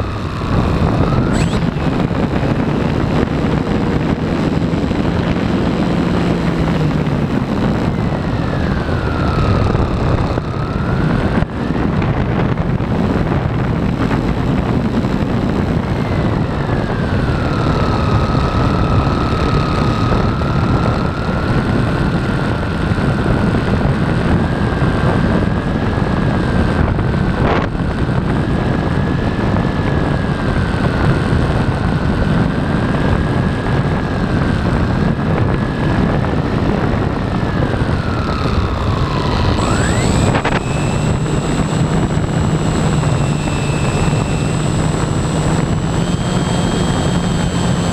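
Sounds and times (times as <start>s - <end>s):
model plane propeller whining: 0.0s - 47.9s
wind rush: 0.0s - 47.9s.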